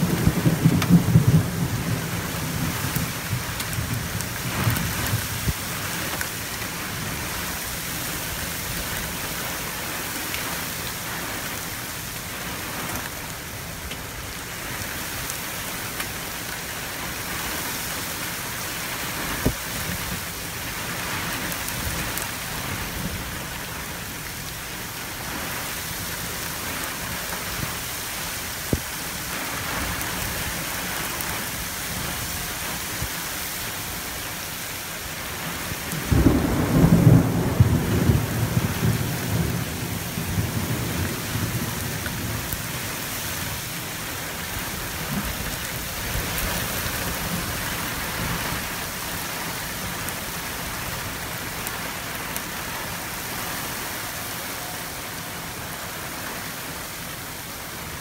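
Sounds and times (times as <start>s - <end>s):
heavy rain pouring on ground: 0.0s - 58.0s.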